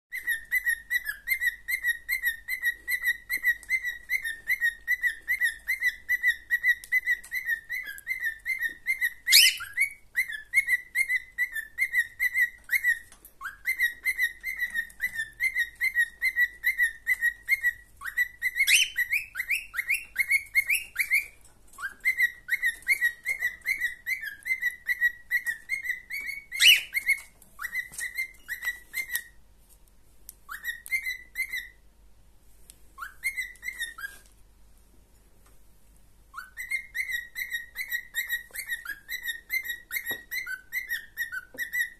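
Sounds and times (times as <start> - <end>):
cockatiel whistling: 0.1 - 29.4, 30.5 - 31.8, 33.0 - 34.2, 36.3 - 41.9.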